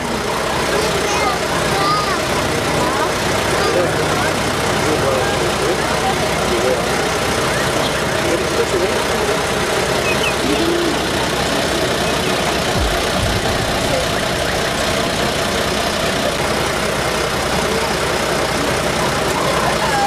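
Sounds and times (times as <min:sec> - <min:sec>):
faint voices: 0:00.0 - 0:20.0
vehicle engine running: 0:00.0 - 0:20.0.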